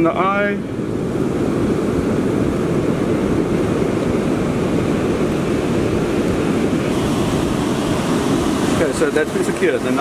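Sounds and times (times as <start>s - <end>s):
surf washing on beach: 0.0s - 10.0s
wind buffeting microphone: 0.0s - 10.0s.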